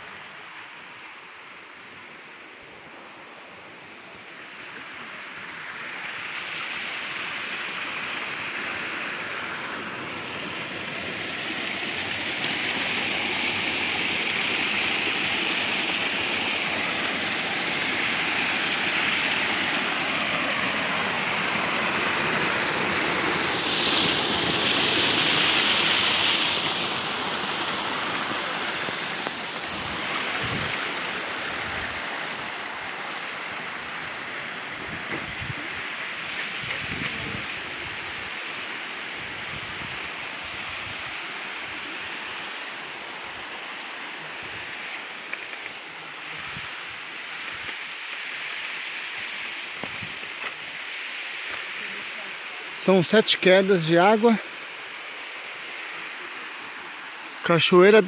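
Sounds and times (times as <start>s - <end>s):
stream water rushing over rock: 0.0s - 58.0s.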